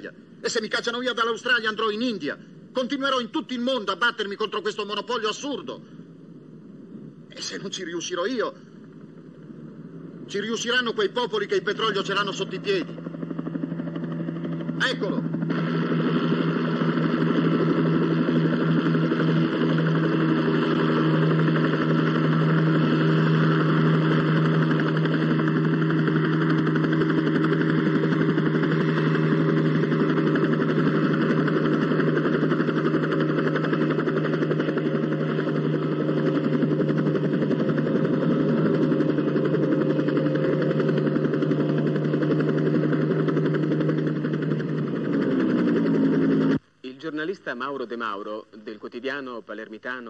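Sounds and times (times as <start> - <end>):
helicopter engine and rotor: 0.0 - 46.6.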